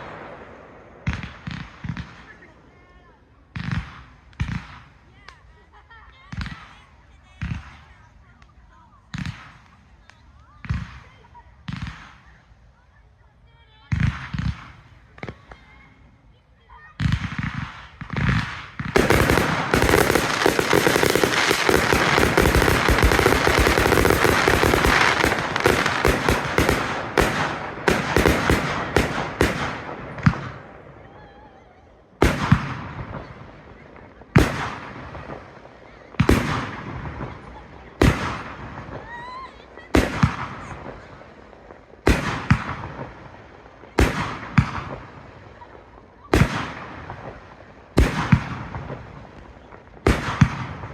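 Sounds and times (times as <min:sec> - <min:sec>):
loud firework bursts: 0:00.0 - 0:12.6, 0:13.7 - 0:50.9
fireworks bangs and crackle: 0:00.0 - 0:50.9.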